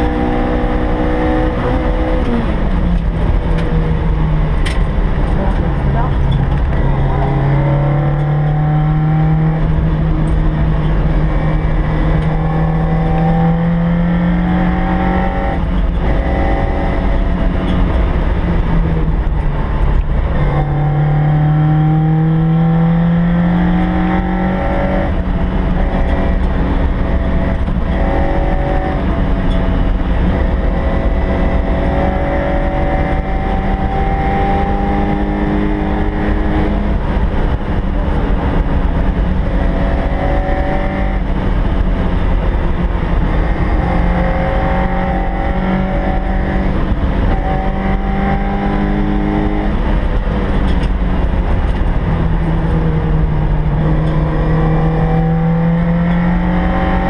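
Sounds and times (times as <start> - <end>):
car engine revving at full throttle: 0.0 - 57.0
road and wind noise: 0.0 - 57.0.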